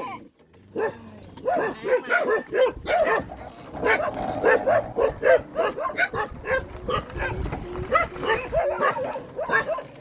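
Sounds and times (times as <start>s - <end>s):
dogs yapping: 0.0s - 10.0s.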